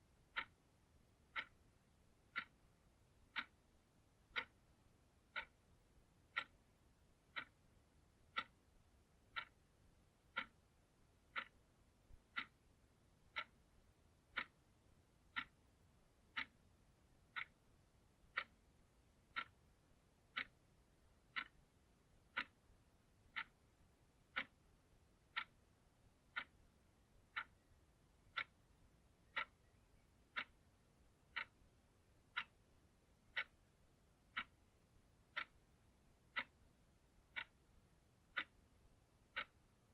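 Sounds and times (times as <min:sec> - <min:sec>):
analog clock ticking: 0:00.0 - 0:39.9.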